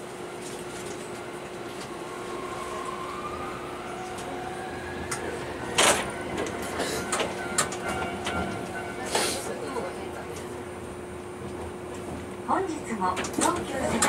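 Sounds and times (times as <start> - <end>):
tram electrical hum: 0.0 - 14.0.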